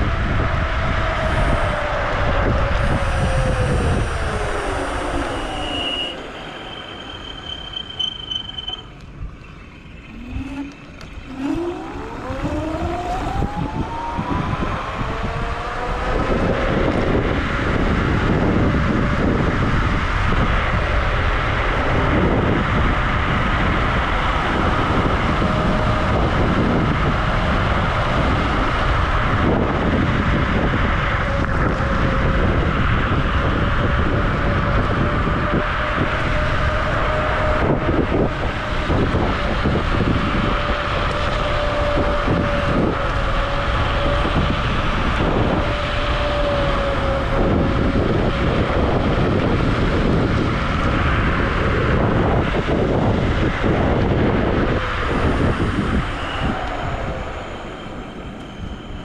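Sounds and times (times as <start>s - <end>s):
electric scooter motor whining: 0.0s - 59.0s
wind and road noise: 0.0s - 59.0s.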